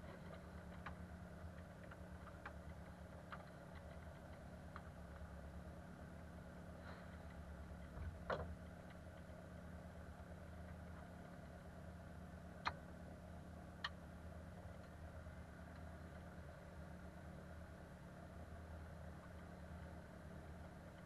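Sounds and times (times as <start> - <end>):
plane engine idling muffled: 0.0 - 21.0.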